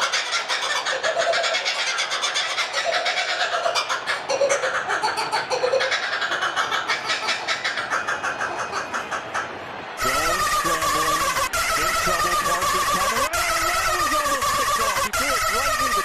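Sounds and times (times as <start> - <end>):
animal chattering laugh: 0.0 - 16.0.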